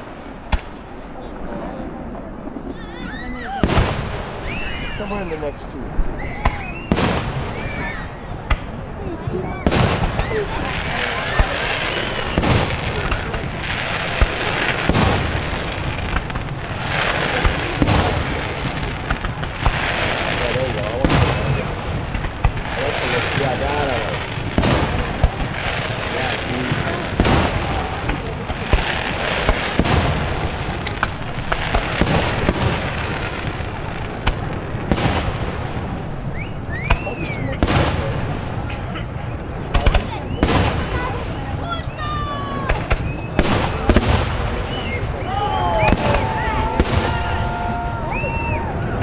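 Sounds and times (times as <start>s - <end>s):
firework crackling: 0.0s - 49.0s
firework thuds: 3.5s - 5.4s, 6.3s - 49.0s.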